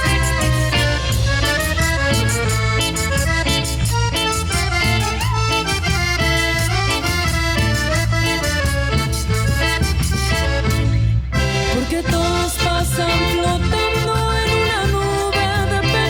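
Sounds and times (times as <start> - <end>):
instrumental cumbia music: 0.0 - 16.0.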